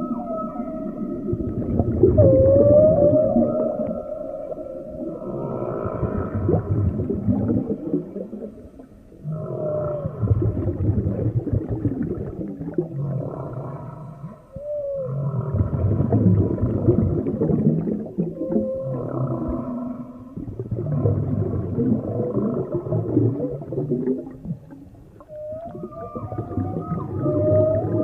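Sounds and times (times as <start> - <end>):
underwater animal moaning calls: 0.0 - 28.0.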